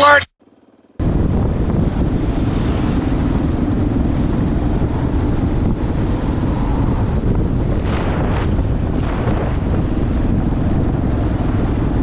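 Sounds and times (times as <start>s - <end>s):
low road rumble: 0.4s - 12.0s
wind buffeting microphone: 1.0s - 12.0s.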